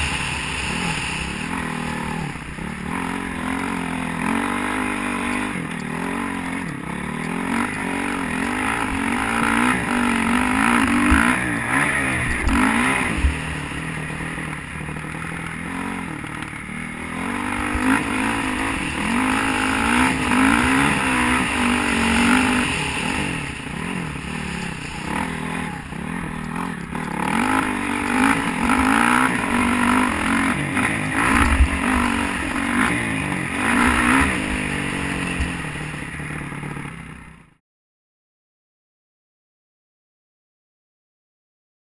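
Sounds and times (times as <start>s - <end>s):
motocross bike engine revving: 0.0s - 37.4s.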